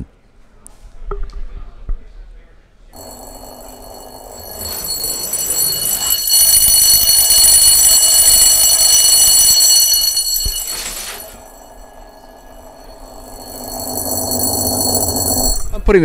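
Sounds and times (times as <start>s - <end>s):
bell ringing in metal tube: 3.0s - 15.8s.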